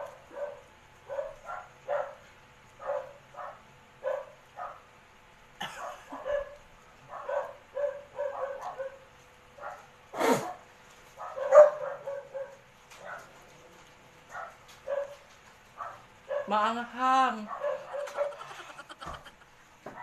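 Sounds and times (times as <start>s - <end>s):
dog barking and whining: 0.0s - 4.9s, 5.8s - 13.4s, 14.3s - 16.7s, 17.4s - 19.3s.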